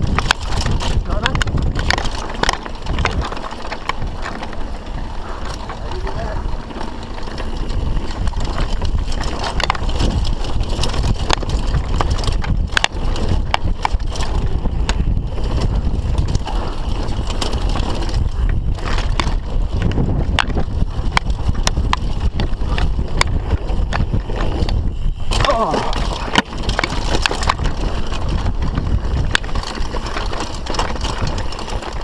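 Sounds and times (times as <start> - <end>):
bike clacking and rattling: 0.0 - 32.0
rumble of tyres and air: 0.0 - 32.0.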